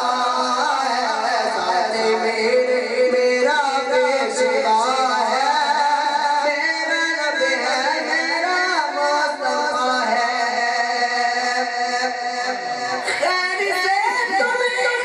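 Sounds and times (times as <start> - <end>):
man singing through a pa system: 0.0 - 15.0.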